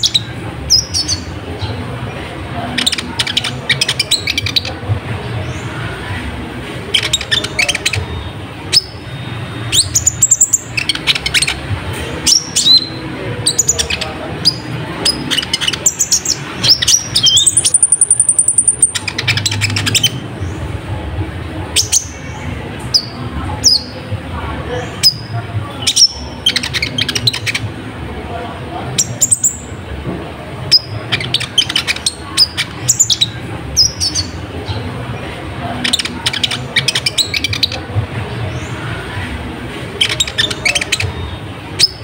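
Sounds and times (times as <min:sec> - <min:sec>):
sunbird chirping and twittering: 0:00.0 - 0:20.9, 0:24.7 - 0:27.7, 0:28.8 - 0:29.8, 0:30.6 - 0:42.0.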